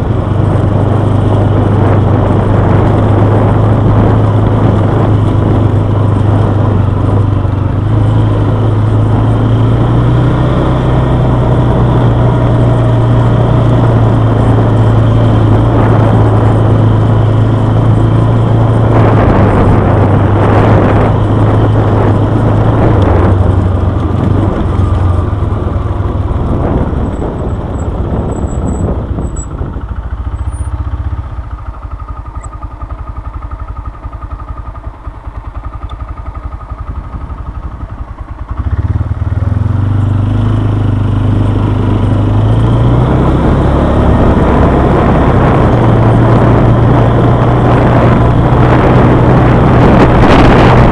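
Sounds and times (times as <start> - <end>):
quad bike engine running: 0.0 - 50.9.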